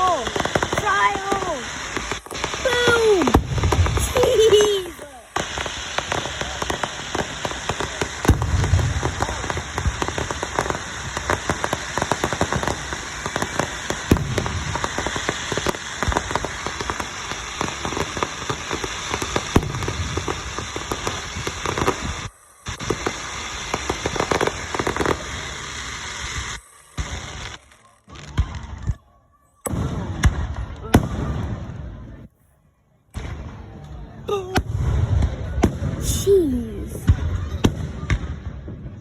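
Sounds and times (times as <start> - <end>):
fireworks booms: 0.0 - 29.0, 29.6 - 32.3, 33.1 - 39.0
fireworks crackling and popping: 0.0 - 32.4, 33.0 - 39.0.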